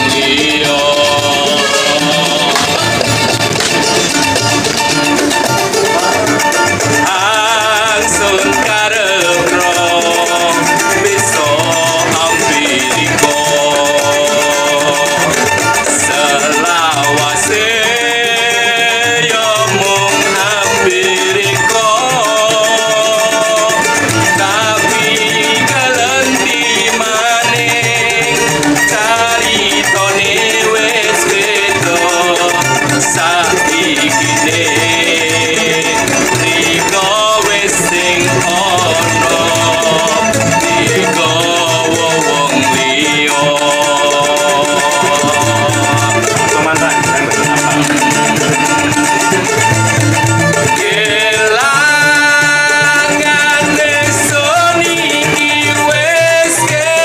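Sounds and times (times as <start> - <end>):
acoustic guitars strummed: 0.0 - 57.0
man singing: 0.0 - 57.0
small ukulele-type string instrument: 0.0 - 57.0.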